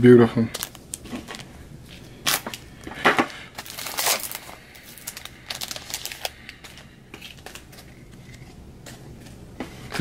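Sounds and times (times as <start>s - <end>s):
foil wrapper crinkling and tearing: 0.5s - 8.6s.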